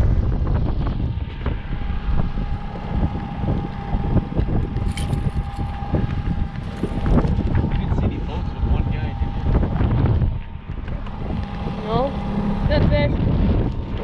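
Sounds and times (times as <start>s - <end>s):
boat motor running: 0.0s - 14.0s
thin steady whine: 0.0s - 14.0s
wind buffeting microphone: 0.0s - 14.0s.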